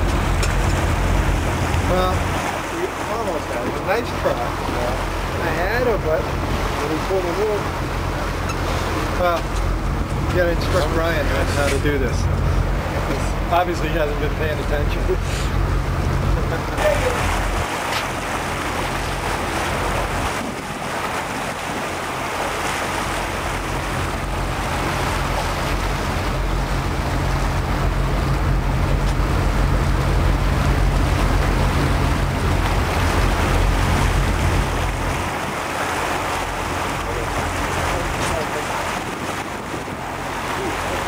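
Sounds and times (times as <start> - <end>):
water washing around boat: 0.0 - 41.0
wind buffeting microphone: 0.0 - 41.0.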